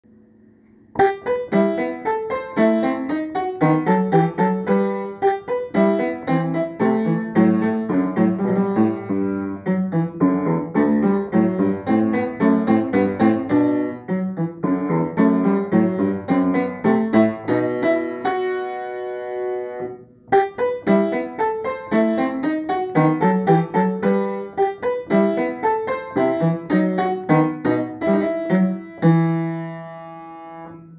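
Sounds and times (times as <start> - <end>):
upright piano playing: 0.4 - 30.9.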